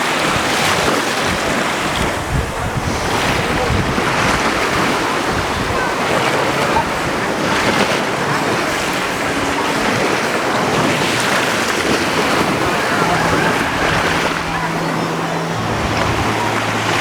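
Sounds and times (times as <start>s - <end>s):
waves washing onto beach: 0.0s - 17.0s
wind buffeting microphone: 0.0s - 17.0s.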